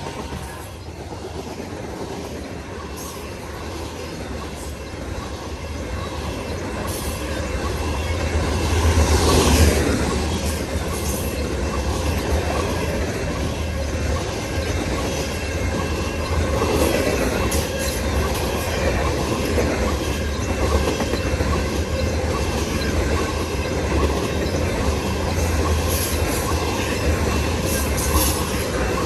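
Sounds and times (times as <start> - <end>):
diesel locomotive engines rumbling: 0.0 - 29.0
train wheels on rails: 0.0 - 29.0.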